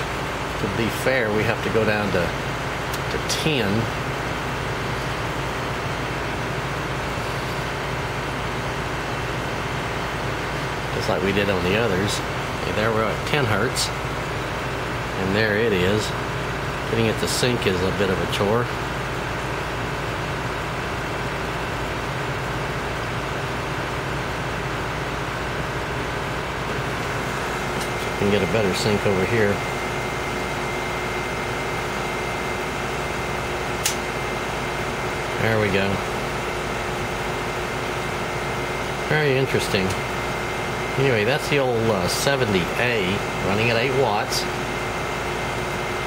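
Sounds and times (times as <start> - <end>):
electronic equipment hum: 0.0 - 46.0.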